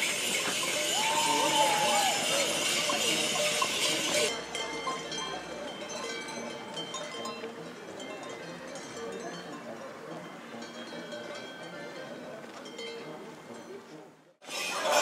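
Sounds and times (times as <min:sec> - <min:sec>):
metal bells jangling: 0:00.0 - 0:14.0.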